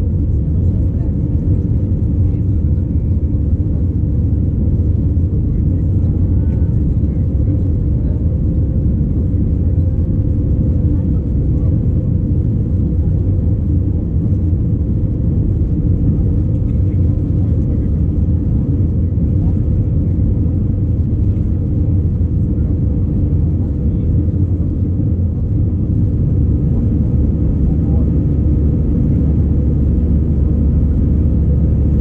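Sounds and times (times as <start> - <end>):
airplane cabin drone: 0.0 - 32.0.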